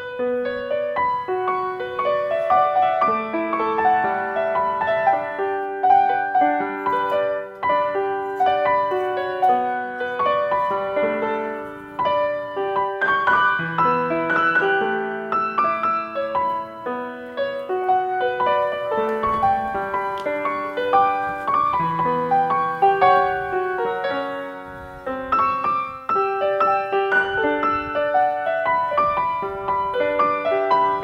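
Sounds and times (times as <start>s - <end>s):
gentle piano-like instrumental music: 0.0s - 31.0s.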